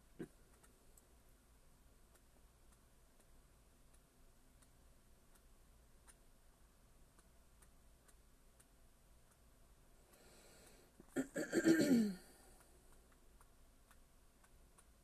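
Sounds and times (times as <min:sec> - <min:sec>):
small clicks: 0:00.0 - 0:11.2, 0:12.4 - 0:15.0
faint low hum: 0:00.0 - 0:15.0.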